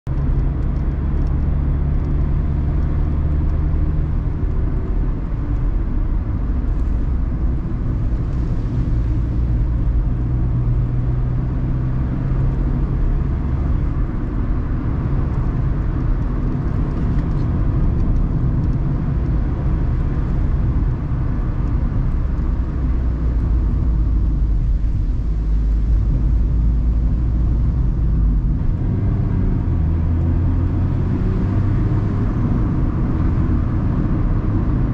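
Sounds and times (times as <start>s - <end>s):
car engine running: 0.0s - 34.9s
tyre and road noise: 0.0s - 34.9s.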